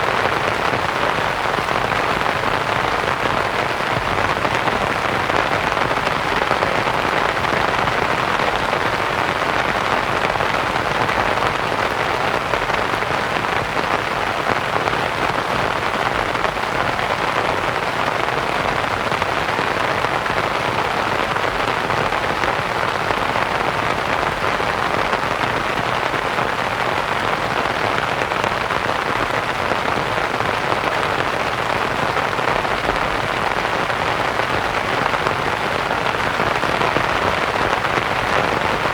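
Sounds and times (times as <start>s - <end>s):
rain pattering on a tent: 0.0s - 38.9s.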